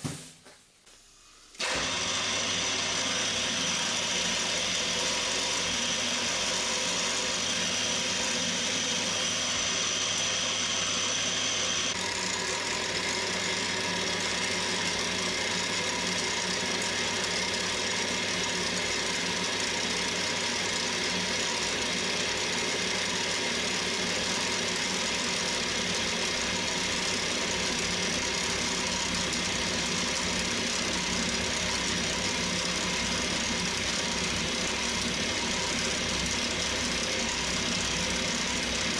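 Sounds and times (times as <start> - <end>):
drill spindle cutting metal: 1.6 - 38.9.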